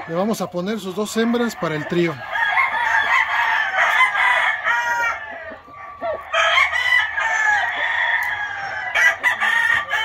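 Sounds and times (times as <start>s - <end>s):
roosters crowing: 0.0s - 10.0s.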